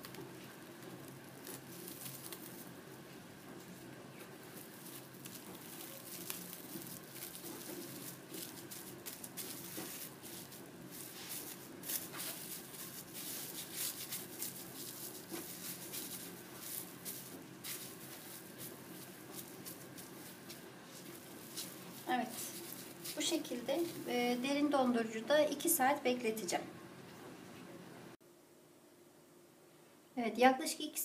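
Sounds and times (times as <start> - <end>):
cling film crinkling: 0.0 - 25.6.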